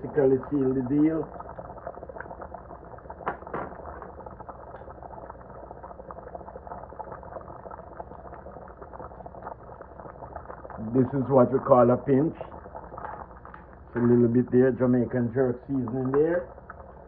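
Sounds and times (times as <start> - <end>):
soup bubbling in a pot: 0.0 - 17.0.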